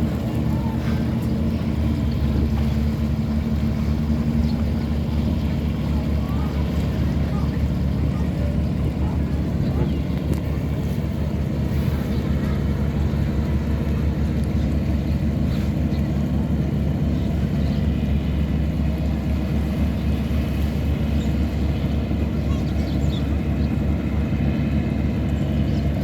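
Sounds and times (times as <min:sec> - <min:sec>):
tugboat engine droning: 0:00.0 - 0:26.0.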